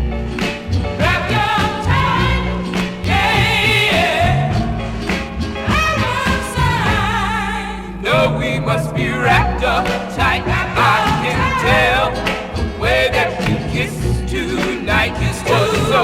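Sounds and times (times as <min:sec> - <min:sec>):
soul music with singing: 0:00.0 - 0:16.0.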